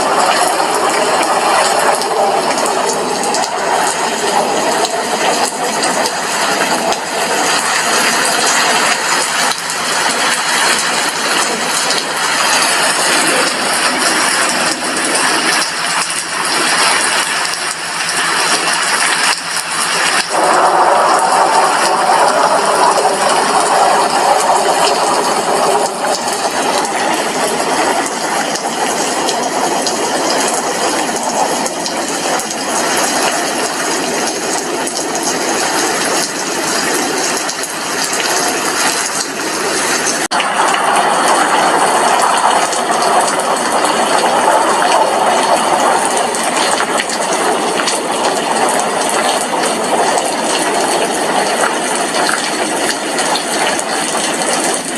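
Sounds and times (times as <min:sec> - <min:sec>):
heavy rain on a glass window: 0:00.0 - 0:54.9.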